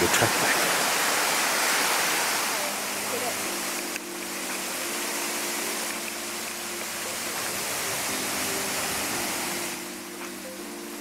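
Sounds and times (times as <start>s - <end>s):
low background music: 0.0s - 11.0s
waterfall rushing: 0.0s - 11.0s.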